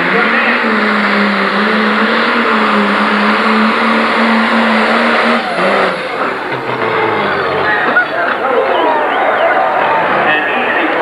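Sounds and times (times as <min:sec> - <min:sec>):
diesel tractor engine at full throttle: 0:00.0 - 0:11.0.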